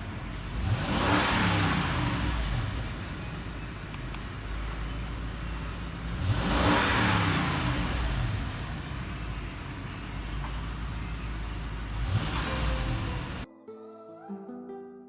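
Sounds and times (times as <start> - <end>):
car engine running: 0.0 - 13.5.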